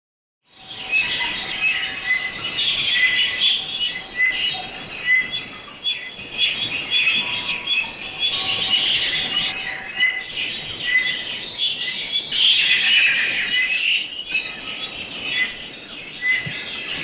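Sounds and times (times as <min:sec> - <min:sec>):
small birds chirping: 0:00.6 - 0:17.0.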